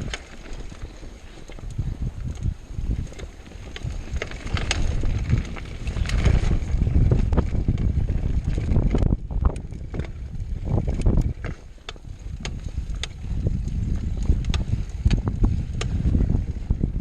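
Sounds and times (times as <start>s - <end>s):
bike clicks and knocks: 0.0s - 16.8s
wind buffeting microphone: 0.0s - 17.0s.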